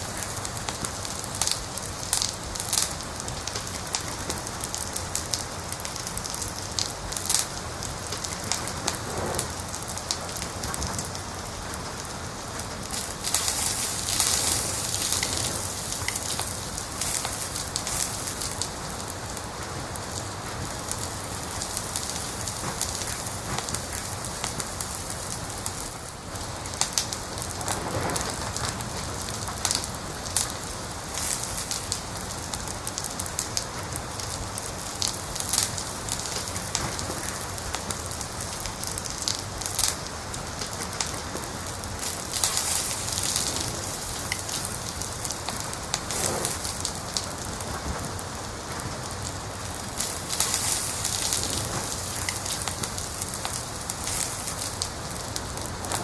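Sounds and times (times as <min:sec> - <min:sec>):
steady hiss: 0:00.0 - 0:56.0
wood fire crackling: 0:00.0 - 0:56.0.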